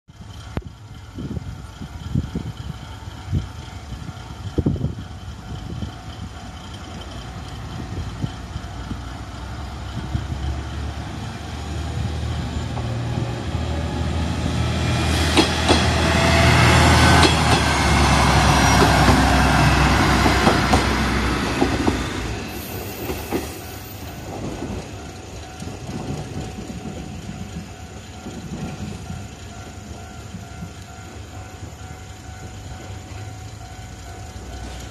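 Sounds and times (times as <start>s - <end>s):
diesel railcar passing: 0.1s - 34.9s.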